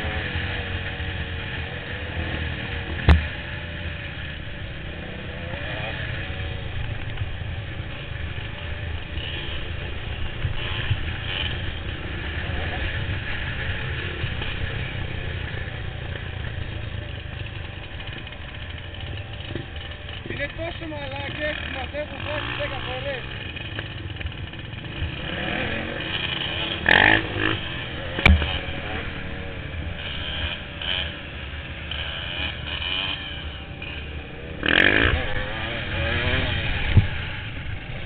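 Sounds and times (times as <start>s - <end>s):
motorcycle engines running unevenly: 0.0s - 38.0s.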